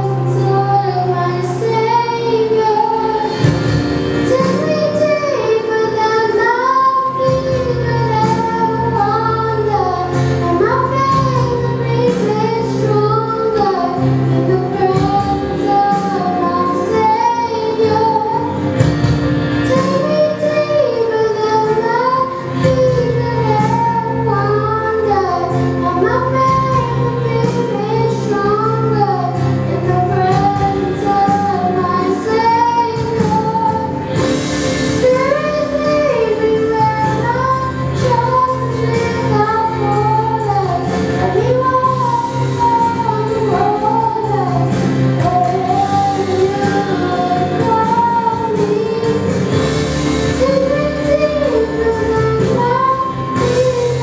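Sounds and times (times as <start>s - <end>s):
girl singing into microphone: 0.0s - 54.0s
instrumental accompaniment: 0.0s - 54.0s.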